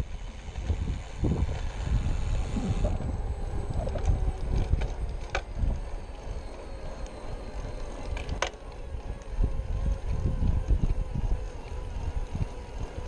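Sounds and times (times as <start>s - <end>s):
faint motor hum: 0.0s - 13.0s
wind buffeting microphone: 0.0s - 13.0s.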